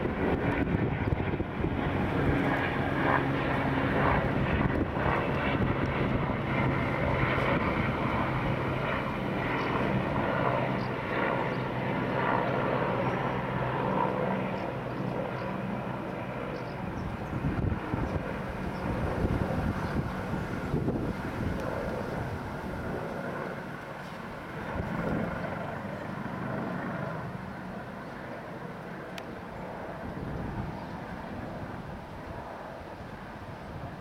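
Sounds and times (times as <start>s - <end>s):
helicopters flying overhead: 0.0s - 34.0s.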